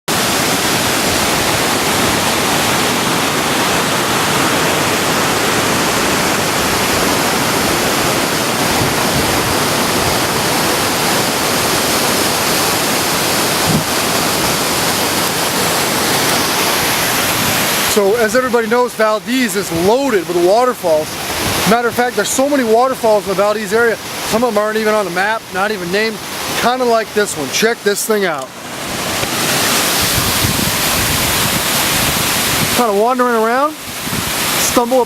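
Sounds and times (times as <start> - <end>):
waterfall rushing: 0.1 - 35.0.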